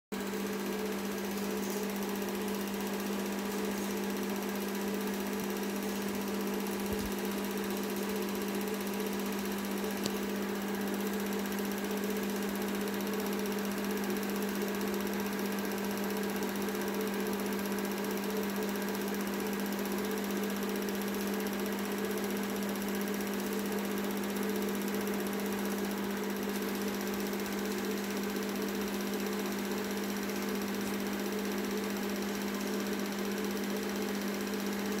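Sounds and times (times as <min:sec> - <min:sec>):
film projector humming: 0:00.2 - 0:35.0.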